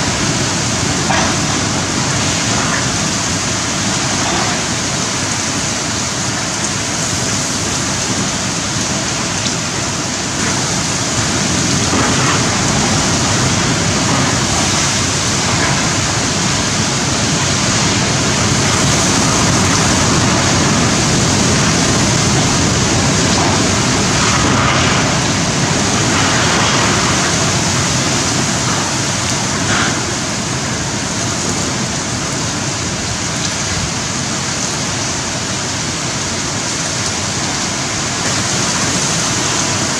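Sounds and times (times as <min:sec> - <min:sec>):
howling wind: 0:00.0 - 0:39.9
torrential rain: 0:00.0 - 0:39.9.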